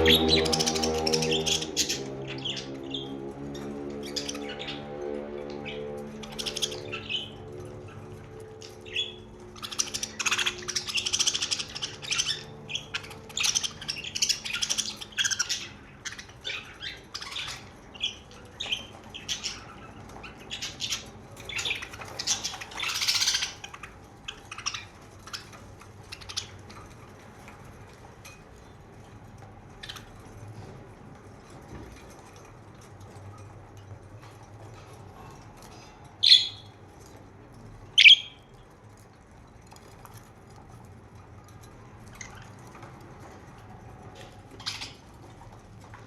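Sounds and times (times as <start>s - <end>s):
budgerigars chirping and squawking: 0.0s - 28.1s, 29.7s - 33.4s, 34.2s - 37.2s, 37.9s - 38.6s, 41.4s - 46.0s.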